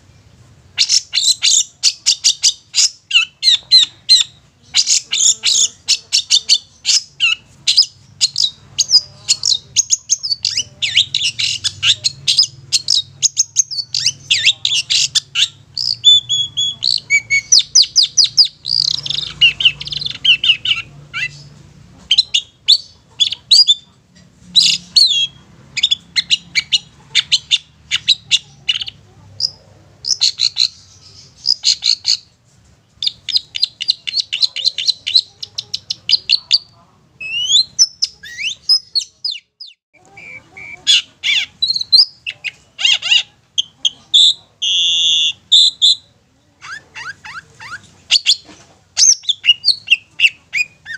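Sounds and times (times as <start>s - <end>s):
bird chattering song: 0.0s - 32.4s, 33.0s - 50.9s.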